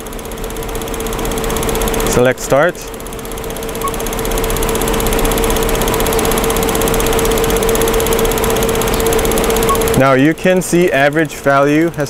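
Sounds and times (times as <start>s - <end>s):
mid-pitched whine: 0.0s - 12.0s
vehicle engine idling: 0.0s - 12.0s.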